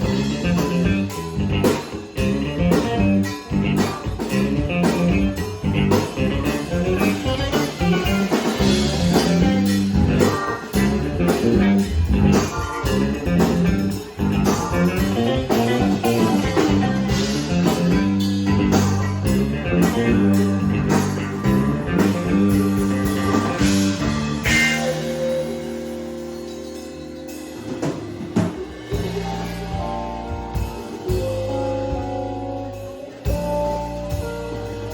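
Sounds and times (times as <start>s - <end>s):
blues rock band playing: 0.0s - 34.9s.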